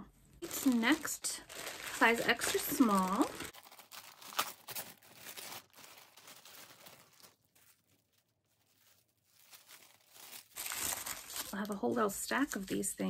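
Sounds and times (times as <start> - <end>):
sharp plastic rustle: 0.4 - 12.1
plastic bag crinkling: 0.4 - 12.7.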